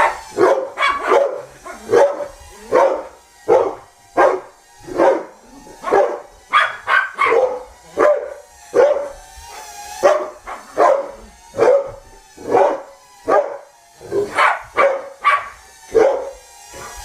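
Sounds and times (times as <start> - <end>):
dog barking: 0.0 - 17.0.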